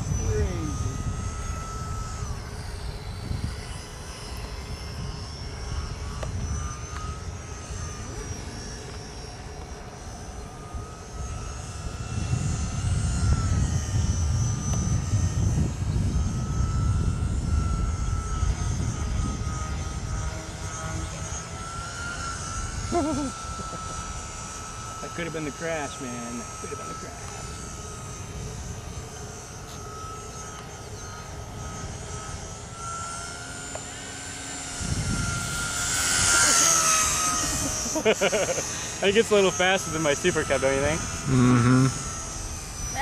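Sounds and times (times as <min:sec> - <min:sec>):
model plane motor whining: 0:00.0 - 0:43.0.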